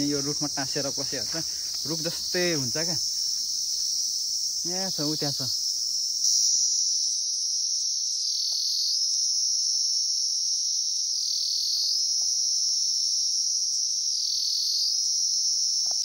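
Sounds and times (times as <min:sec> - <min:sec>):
cicada buzzing: 0:00.0 - 0:16.0.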